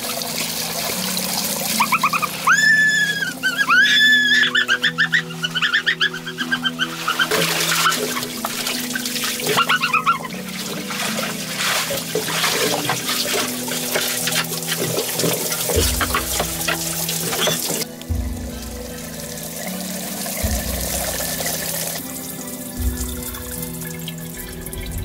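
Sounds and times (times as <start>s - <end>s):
background music with held tones: 0.0s - 25.0s
water splashing in pool: 0.0s - 25.0s.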